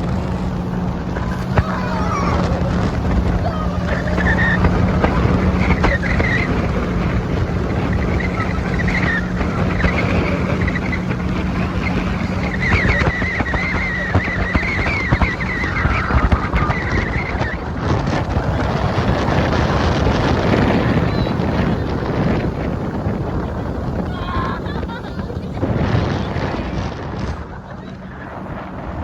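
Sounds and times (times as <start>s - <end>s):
motorboat engine humming: 0.0s - 29.0s
wind buffeting microphone: 0.0s - 29.0s.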